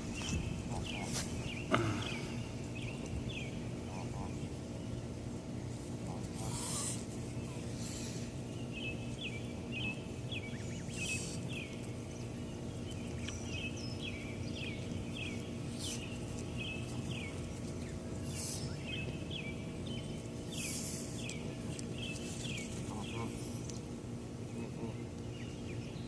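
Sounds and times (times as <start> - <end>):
goslings peeping: 0.0 - 26.0
low background rumble: 0.0 - 26.0.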